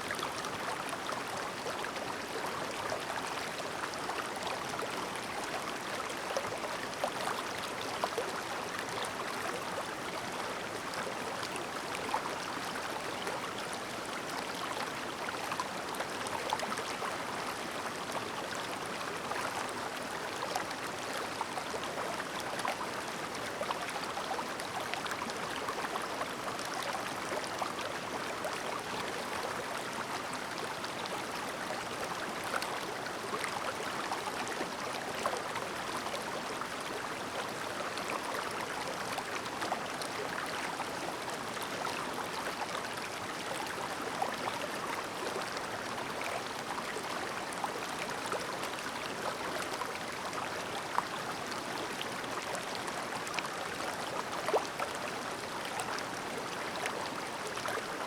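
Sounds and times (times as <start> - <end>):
stream babbling over rocks: 0.1 - 58.0.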